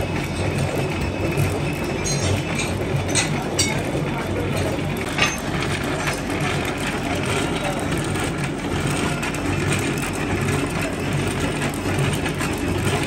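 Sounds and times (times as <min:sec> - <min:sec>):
machinery rumble and hum: 0:00.0 - 0:13.0.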